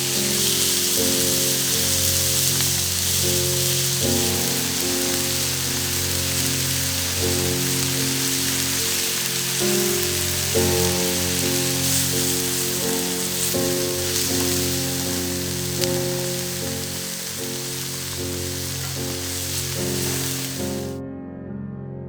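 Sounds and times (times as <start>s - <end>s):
background music: 0.0s - 21.0s
food sizzling on a griddle: 0.0s - 21.0s
sharp crackle: 0.0s - 21.0s.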